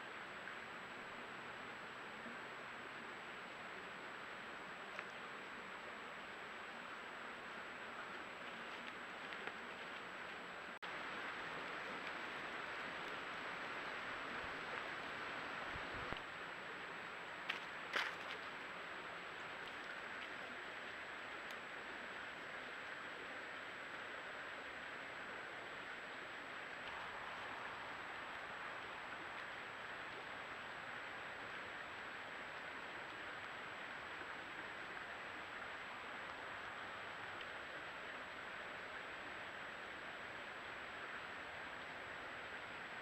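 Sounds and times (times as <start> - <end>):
faint high-pitched whine: 0.0 - 43.0
microphone hiss: 0.0 - 43.0.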